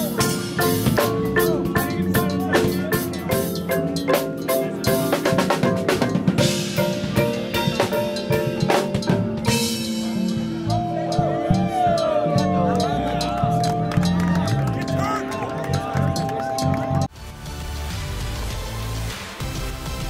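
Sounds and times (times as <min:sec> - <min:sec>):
drum kit and cymbal hits: 0:00.0 - 0:15.2, 0:16.6 - 0:20.0
marimbas and vibraphones: 0:00.0 - 0:17.1.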